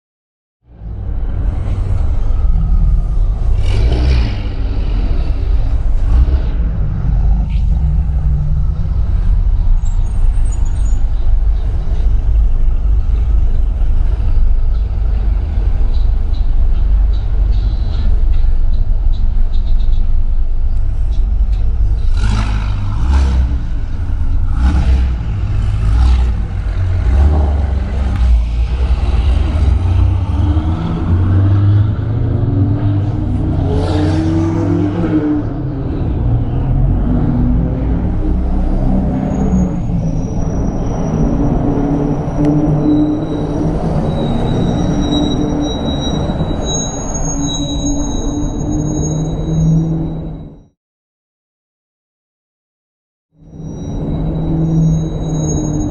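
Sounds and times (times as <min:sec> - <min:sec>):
road traffic rumble: 0:00.6 - 0:50.7, 0:53.4 - 0:55.9
exhaust and tyre noise: 0:00.6 - 0:50.8, 0:53.3 - 0:55.9.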